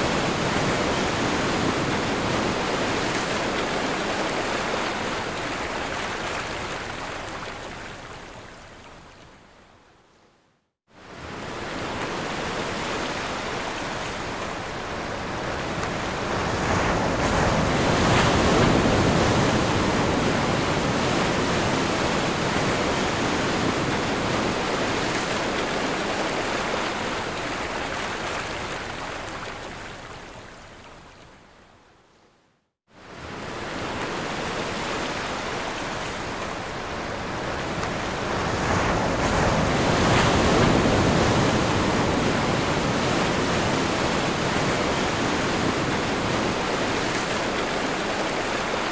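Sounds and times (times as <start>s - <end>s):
ocean waves on shore: 0.0s - 9.8s, 10.9s - 31.6s, 32.9s - 48.9s.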